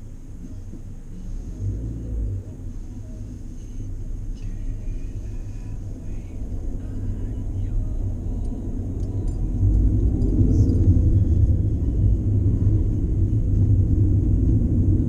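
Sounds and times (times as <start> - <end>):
car interior road and engine noise: 0.0 - 15.0.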